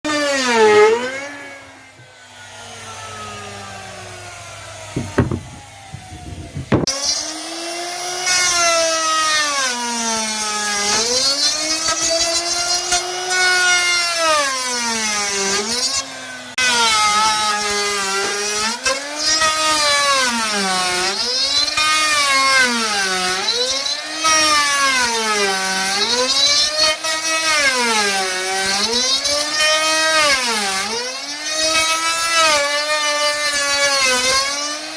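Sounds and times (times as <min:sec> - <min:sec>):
wood router cutting wood: 0:00.1 - 0:34.9.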